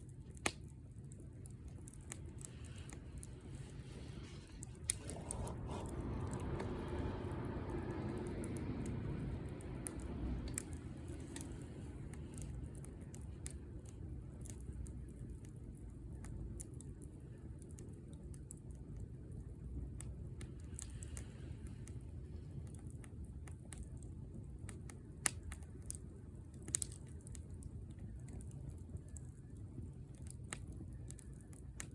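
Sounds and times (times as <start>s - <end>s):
low rumble of flames: 0.0s - 31.9s
wood fire crackling: 0.0s - 31.9s.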